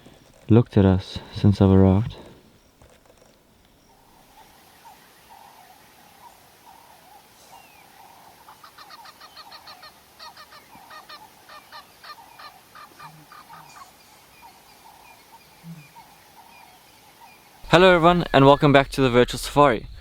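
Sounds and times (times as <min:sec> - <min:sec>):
faint background bird calling: 0:00.0 - 0:20.0
bird fast repeated calls: 0:03.9 - 0:20.0.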